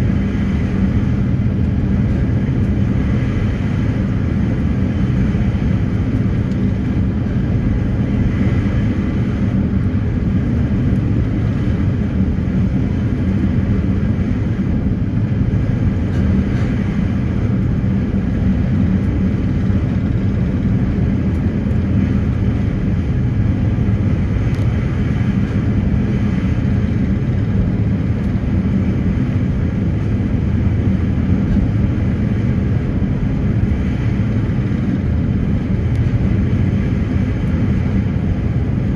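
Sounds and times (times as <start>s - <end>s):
ferry engines droning: 0.0s - 38.9s.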